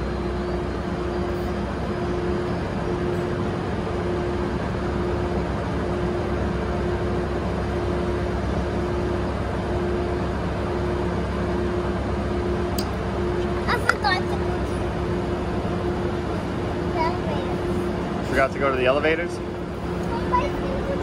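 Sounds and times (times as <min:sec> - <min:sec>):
diesel locomotive idling: 0:00.0 - 0:21.0.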